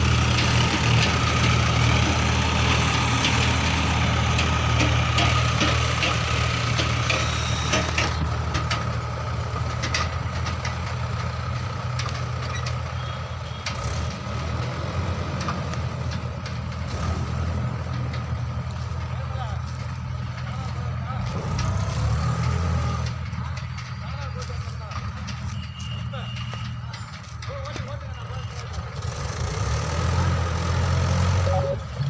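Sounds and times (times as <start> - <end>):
clanks and knocks: 0.0 - 30.1
heavy diesel engine running: 0.0 - 32.0.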